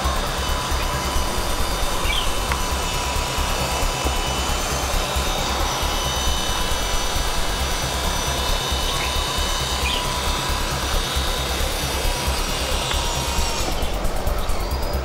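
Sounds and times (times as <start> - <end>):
electric motor high whine: 0.0 - 15.0
whoosh of spinning rotor blades: 0.0 - 15.0.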